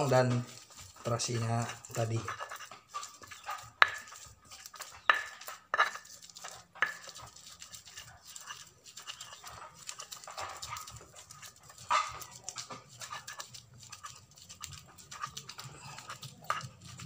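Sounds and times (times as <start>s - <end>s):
hand squishing paste on chopping board: 0.0s - 17.0s.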